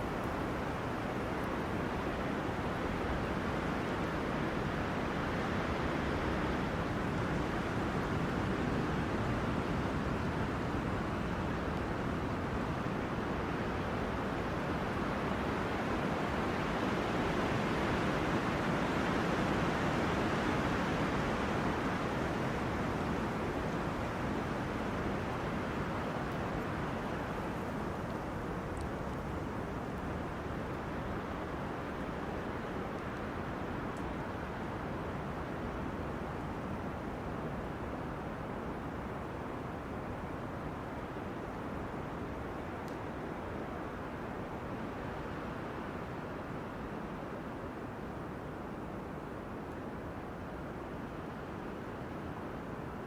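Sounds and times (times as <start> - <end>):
wind rushing through trees: 0.0 - 53.0.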